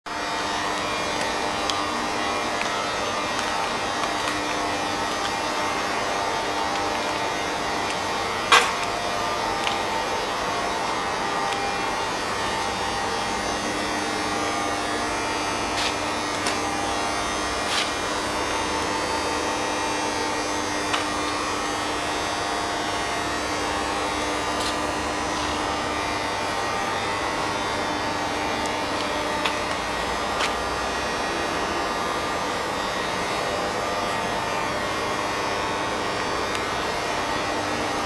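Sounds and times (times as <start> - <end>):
lathe humming with a whine: 0.1 - 38.0.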